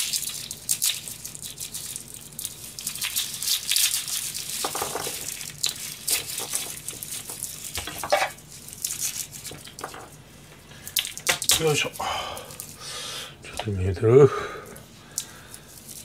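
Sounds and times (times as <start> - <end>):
garlic skins crackling: 0.6 - 10.2, 10.8 - 13.9, 14.7 - 16.0.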